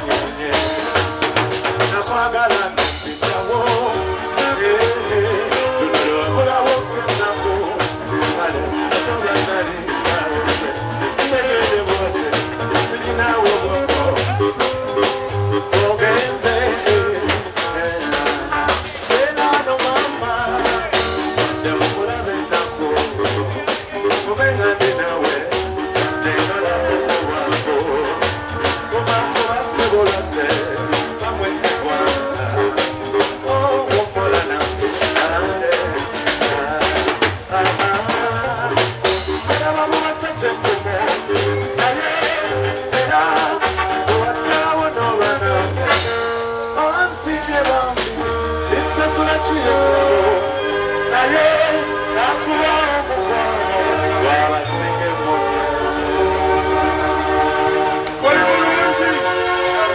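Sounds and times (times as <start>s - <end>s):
drum kit beat: 0.0s - 50.5s
man singing: 0.0s - 56.4s, 58.1s - 59.9s
bass line: 0.0s - 59.9s
electric guitar: 0.0s - 59.9s.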